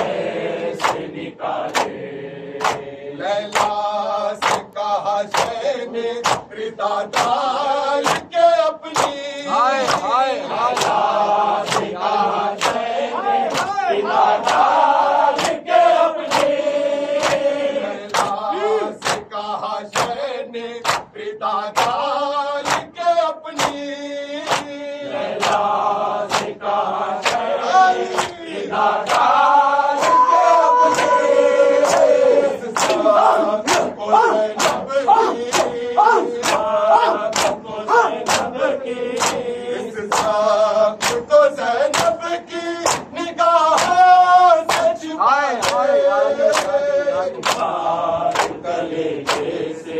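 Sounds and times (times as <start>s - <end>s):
men chanting in unison: 0.0s - 49.9s.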